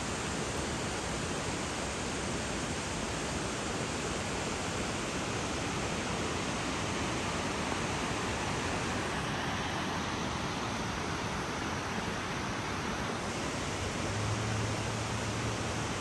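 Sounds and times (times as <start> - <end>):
river rapids rushing: 0.1 - 16.0.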